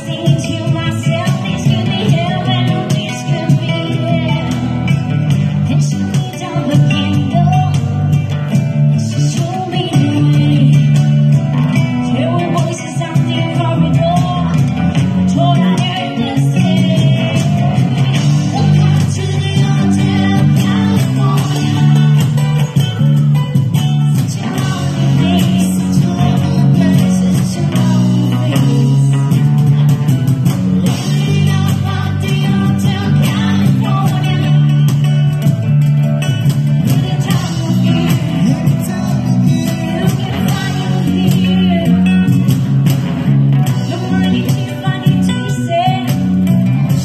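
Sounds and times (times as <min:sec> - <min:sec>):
woman singing into a microphone: 0:00.0 - 0:22.9, 0:24.0 - 0:35.4, 0:36.7 - 0:42.6, 0:43.6 - 0:47.0
acoustic guitar: 0:00.0 - 0:47.0
electric bass guitar: 0:00.0 - 0:47.0.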